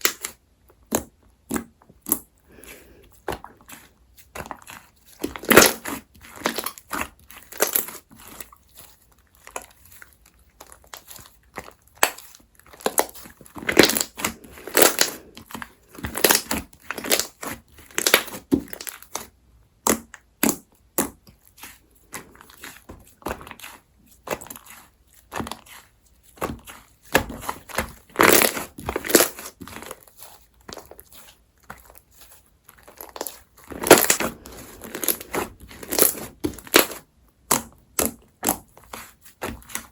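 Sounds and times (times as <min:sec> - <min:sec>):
slime squishing and popping: 0:03.2 - 0:39.9.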